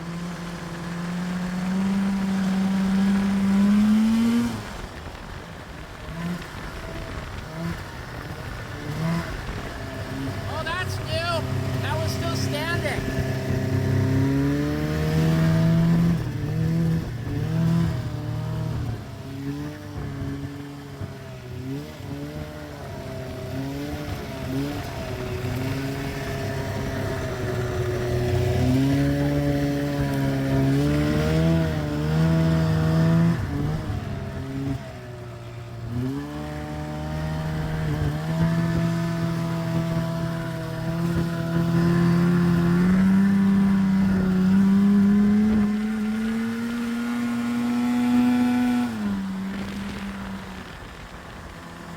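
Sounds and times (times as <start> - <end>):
snowmobile engine revving: 0.0 - 5.3, 6.0 - 51.9.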